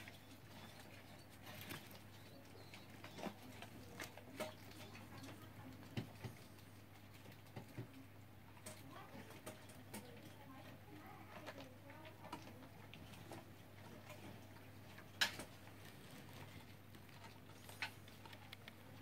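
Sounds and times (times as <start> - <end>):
light clicks and ticks: 0.0 - 19.0.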